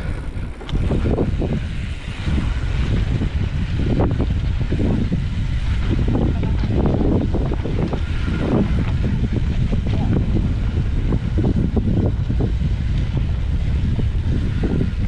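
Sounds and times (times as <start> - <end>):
bike knocks and rattles: 0.0 - 15.0
bike tyres rumbling: 0.0 - 15.0
wind noise on microphone: 0.0 - 15.0.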